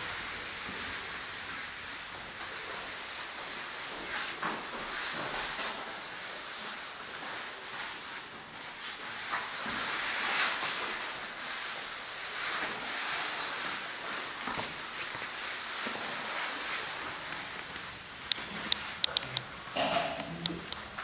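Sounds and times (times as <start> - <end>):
bodies and clothing rustling on floor: 0.4 - 19.0.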